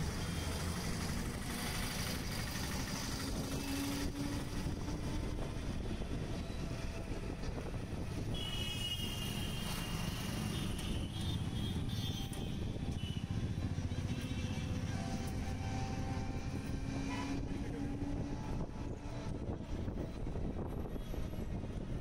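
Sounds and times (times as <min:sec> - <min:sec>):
motorcycles and cars passing: 0:00.0 - 0:06.3, 0:09.1 - 0:22.0
road and wind rumble: 0:00.0 - 0:22.0.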